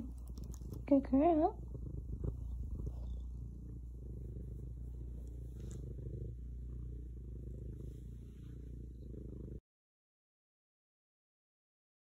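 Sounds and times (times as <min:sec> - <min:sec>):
cat purring: 0:00.0 - 0:09.6.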